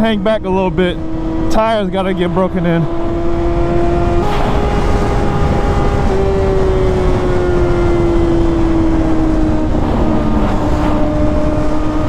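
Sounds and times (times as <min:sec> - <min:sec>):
motorcycle engine at high revs: 0:00.0 - 0:12.0
wind rush on microphone: 0:00.0 - 0:12.0.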